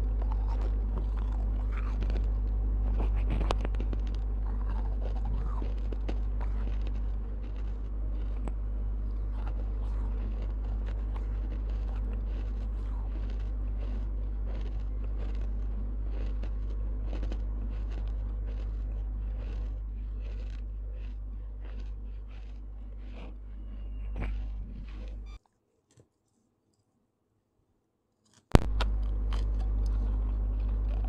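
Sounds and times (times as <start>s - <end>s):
crunching clay pieces: 0.0s - 25.4s
low electrical hum: 0.0s - 31.0s.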